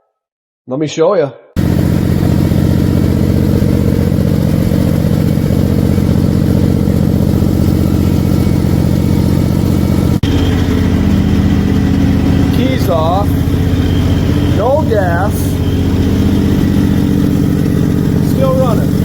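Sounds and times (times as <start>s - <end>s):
concrete grinder engine running: 1.6s - 19.0s.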